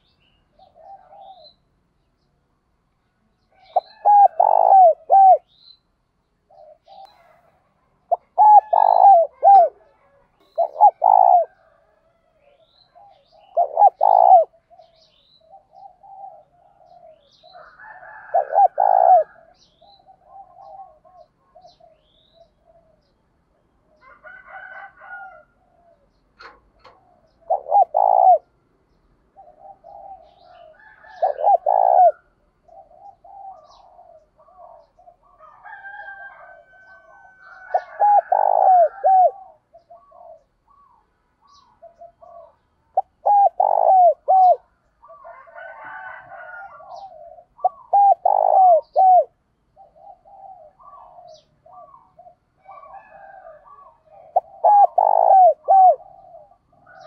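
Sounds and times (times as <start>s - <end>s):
dove cooing: 0.0s - 1.6s, 3.5s - 5.6s, 6.4s - 57.0s.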